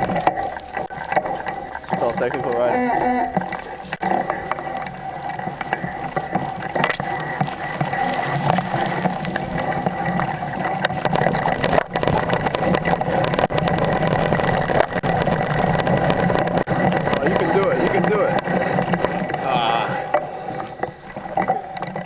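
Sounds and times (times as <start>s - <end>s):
bicycle rattling and clicking: 0.0s - 22.0s.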